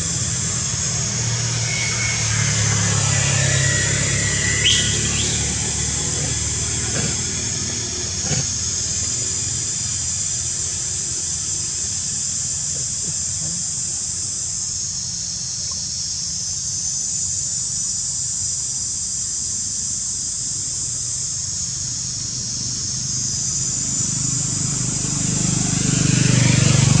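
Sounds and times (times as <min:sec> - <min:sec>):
insect chorus buzzing: 0:00.0 - 0:27.0.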